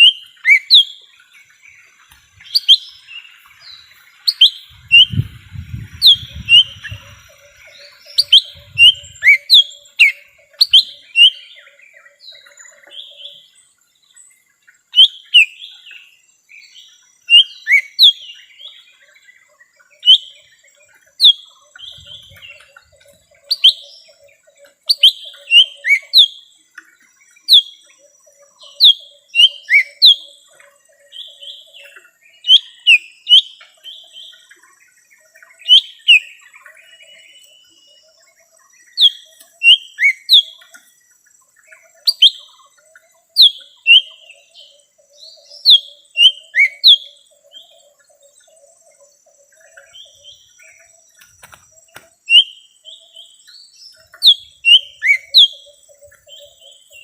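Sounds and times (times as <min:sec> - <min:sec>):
bird singing whistled notes: 0:00.0 - 0:57.0.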